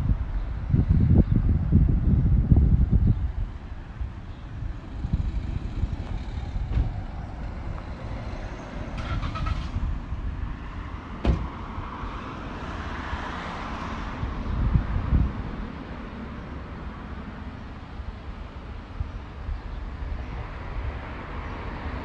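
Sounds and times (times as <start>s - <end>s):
traffic passing: 0.0s - 22.0s
wind buffeting microphone: 0.0s - 22.0s.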